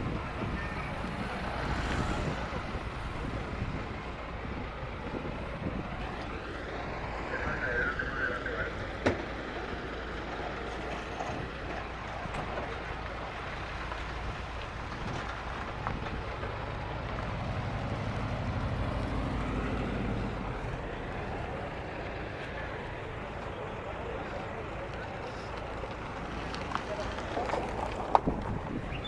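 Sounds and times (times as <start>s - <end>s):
street noise: 0.0s - 29.0s
vehicle engine running: 0.0s - 29.0s.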